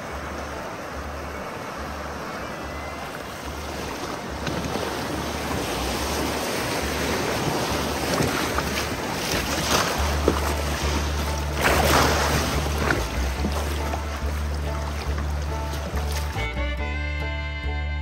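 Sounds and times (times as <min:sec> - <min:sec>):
river water rushing: 0:00.0 - 0:17.4.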